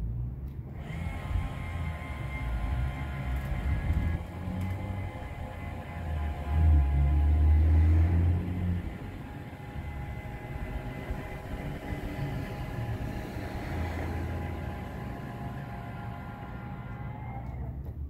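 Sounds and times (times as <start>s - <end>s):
low hum: 0.0s - 18.0s
electric motor whine: 0.7s - 17.9s.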